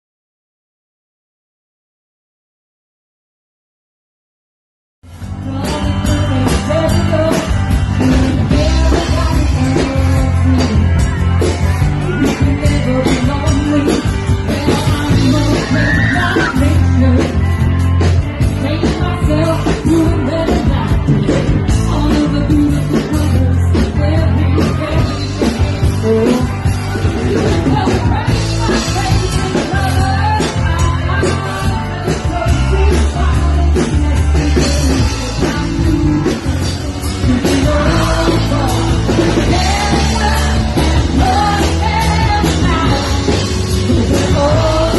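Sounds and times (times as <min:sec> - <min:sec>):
live rock band playing: 0:05.0 - 0:44.9
person singing: 0:05.2 - 0:44.9.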